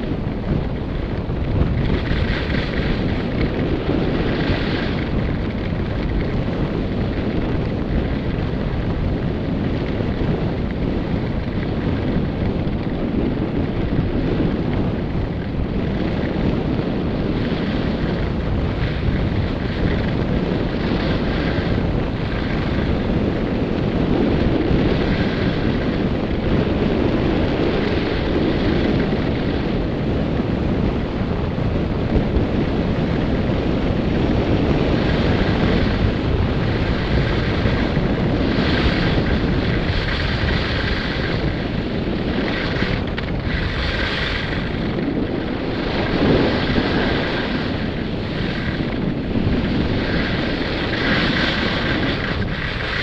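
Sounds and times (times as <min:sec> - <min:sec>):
skis scraping snow: 0:00.0 - 0:53.0
wind buffeting microphone: 0:00.0 - 0:53.0.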